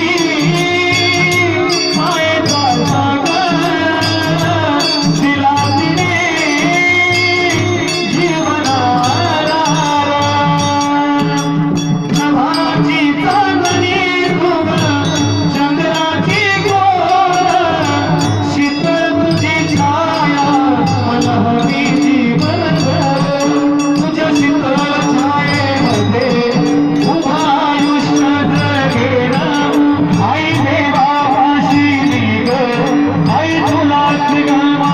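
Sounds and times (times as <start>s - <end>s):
jingling small percussion: 0.0s - 34.9s
person singing ornamented melody: 0.0s - 34.9s
regular drum beat: 0.0s - 34.9s.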